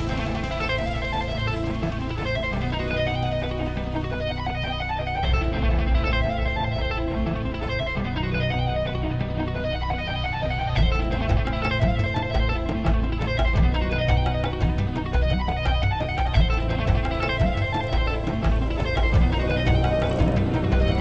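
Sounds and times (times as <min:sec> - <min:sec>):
bass line: 0:00.0 - 0:21.0
guitar instrumental music: 0:00.0 - 0:21.0.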